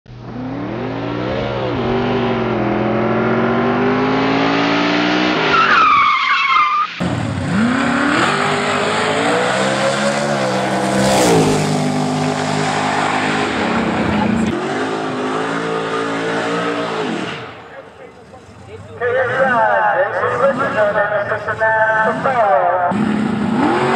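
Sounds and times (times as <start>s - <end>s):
drag racing car engines revving: 0.1s - 23.9s.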